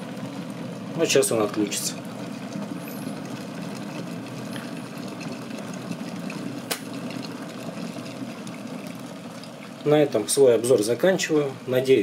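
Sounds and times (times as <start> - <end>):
kettle water boiling: 0.0 - 12.0.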